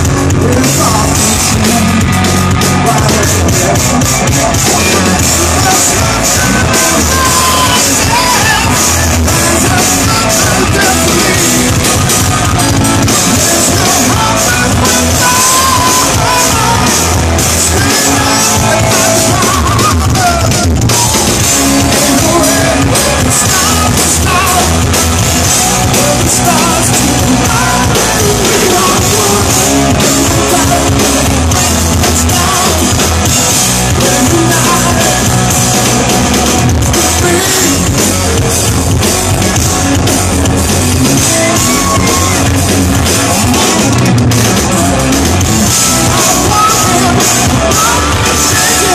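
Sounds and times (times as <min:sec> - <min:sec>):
drum kit: 0:00.0 - 0:48.9
electric bass: 0:00.0 - 0:48.9
electric guitar: 0:00.0 - 0:48.9
person singing lead vocal: 0:00.0 - 0:48.9.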